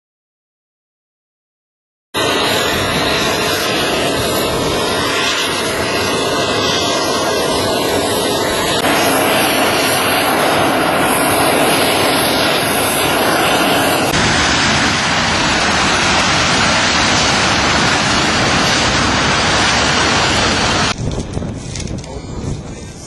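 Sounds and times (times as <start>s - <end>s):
jet engines roaring: 2.2s - 23.0s.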